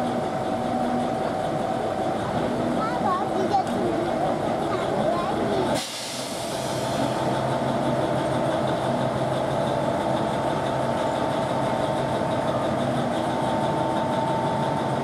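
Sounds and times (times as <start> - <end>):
railway engine idling: 0.0 - 15.0.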